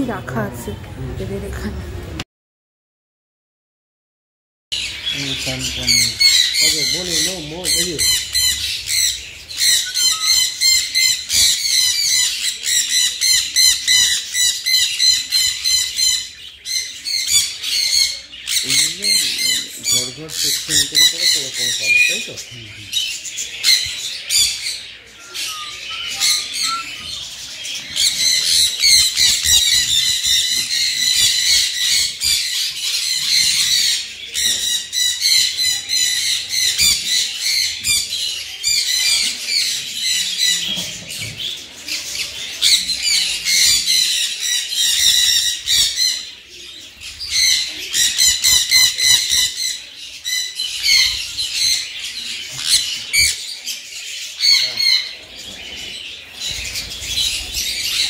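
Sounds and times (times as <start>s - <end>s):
parrots screeching and chattering: 4.8s - 58.0s.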